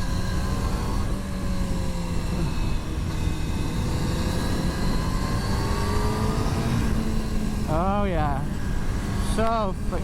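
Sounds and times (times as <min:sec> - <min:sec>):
motorcycle engine: 0:00.0 - 0:10.0.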